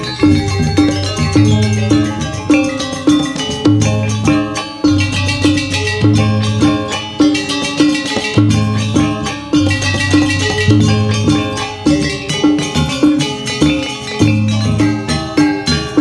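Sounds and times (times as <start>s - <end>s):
drums: 0.0s - 16.0s
gamelan ensemble playing: 0.0s - 16.0s
metallophones ringing: 0.0s - 16.0s.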